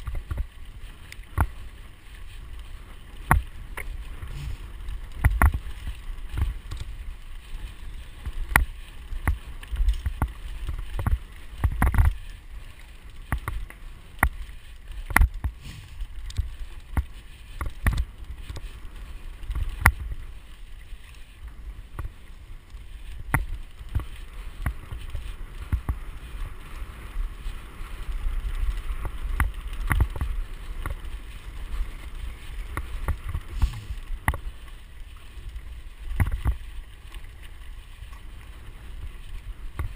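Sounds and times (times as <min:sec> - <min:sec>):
bike rattling over dirt trail: 0:00.0 - 0:39.9
wind rumble on microphone: 0:00.0 - 0:39.9.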